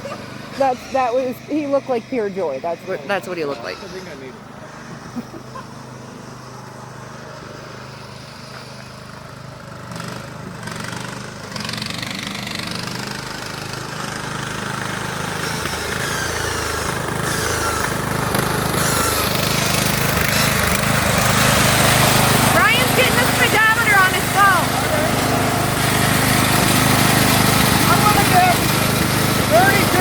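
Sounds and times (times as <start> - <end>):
riding lawn tractor engine: 0.0 - 30.0.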